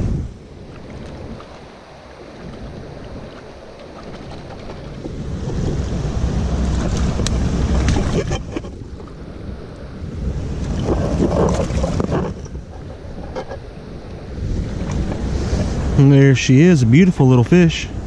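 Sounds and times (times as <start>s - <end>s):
creek rushing: 0.0s - 18.0s
wind buffeting microphone: 0.0s - 18.0s.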